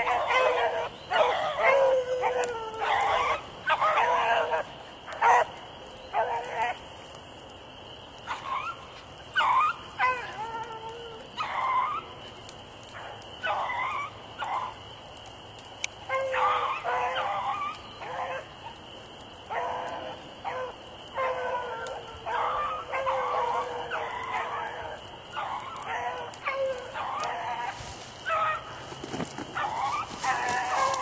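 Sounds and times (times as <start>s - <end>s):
beagles baying: 0.0s - 7.1s, 8.1s - 14.9s, 15.8s - 31.0s.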